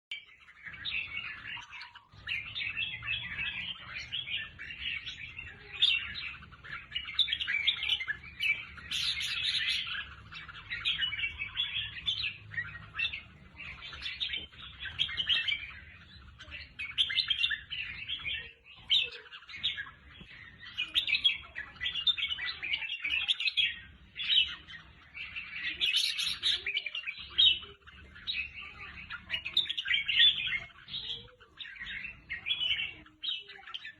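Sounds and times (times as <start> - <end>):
bird chirping song: 0.1 - 33.9.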